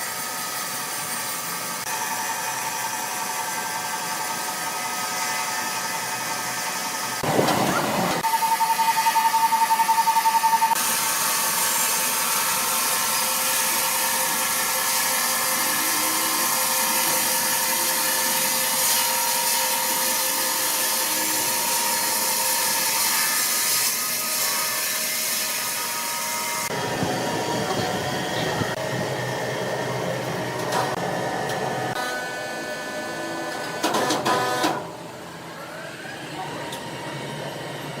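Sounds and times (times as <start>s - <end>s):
low rough machine noise: 0.0s - 38.0s
sawmill machinery whirring: 0.0s - 38.0s.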